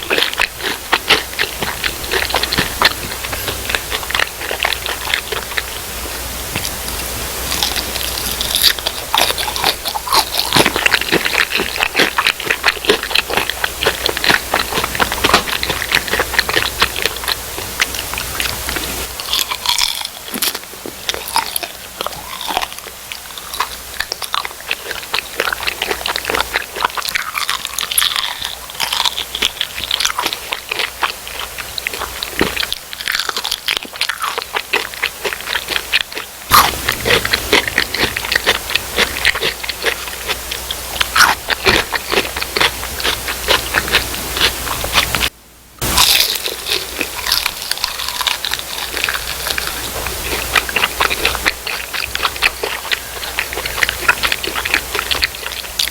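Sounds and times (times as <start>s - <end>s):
crunching fried food: 0.0s - 55.9s.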